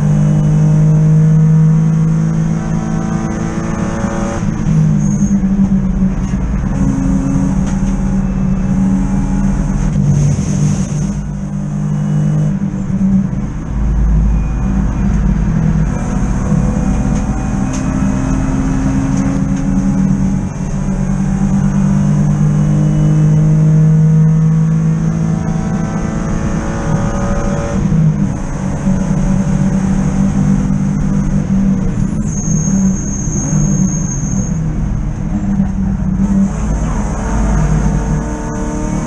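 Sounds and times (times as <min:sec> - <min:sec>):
race car engine revving: 0:00.0 - 0:34.0, 0:35.0 - 0:39.0.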